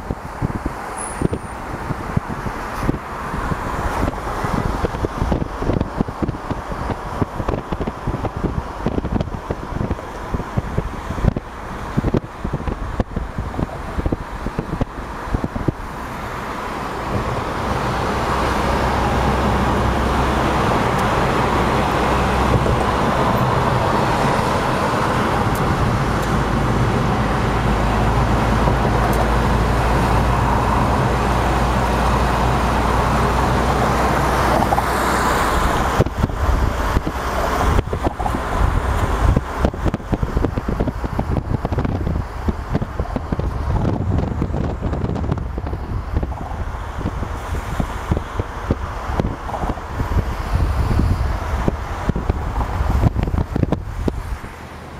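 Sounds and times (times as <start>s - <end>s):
car road noise: 0.0s - 54.9s
wind buffeting microphone: 0.0s - 54.9s.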